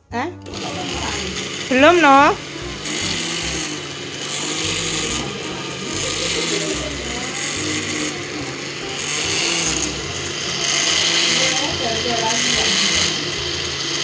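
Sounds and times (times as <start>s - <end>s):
blender motor pulsing: 0.0s - 14.0s.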